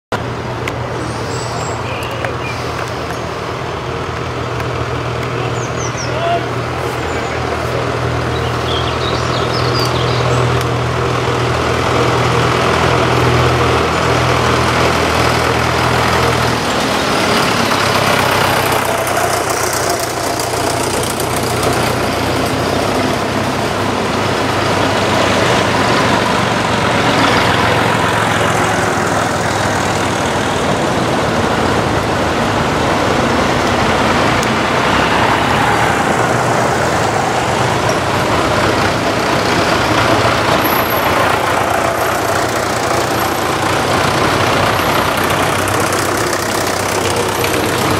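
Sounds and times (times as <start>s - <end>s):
tractor engines passing: 0.1s - 47.9s.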